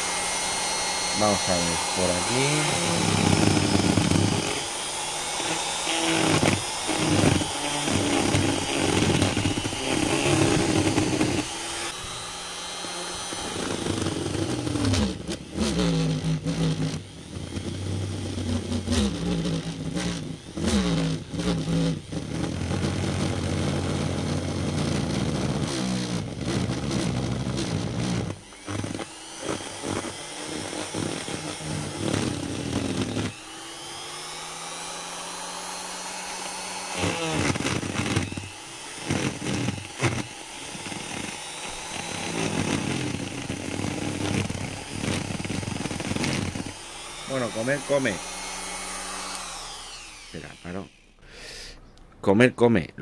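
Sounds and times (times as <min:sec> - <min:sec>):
rotary grinder carving wood: 0:00.0 - 0:51.8.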